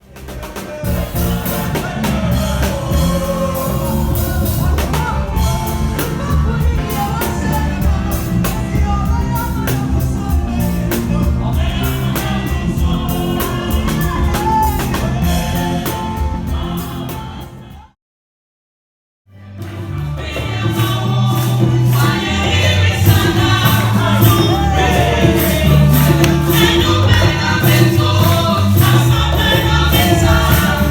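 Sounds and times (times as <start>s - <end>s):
bass guitar: 0.0s - 17.9s, 19.3s - 30.9s
drums: 0.0s - 18.0s, 19.6s - 30.9s
gospel choir singing: 0.0s - 18.0s, 19.5s - 30.9s.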